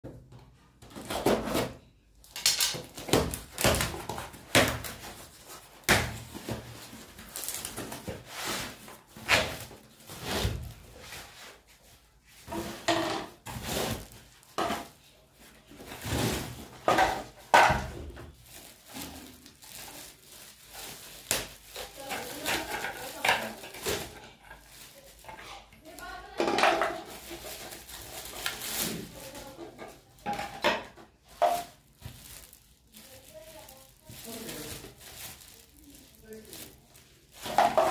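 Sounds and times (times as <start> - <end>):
plastic wrap crinkling: 2.2 - 37.9
cardboard crackling and scraping: 2.8 - 30.5, 31.1 - 37.9.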